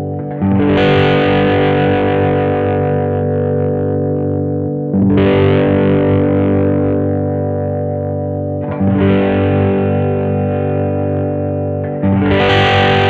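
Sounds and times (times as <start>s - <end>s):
distorted electric guitar chords: 0.0s - 13.0s.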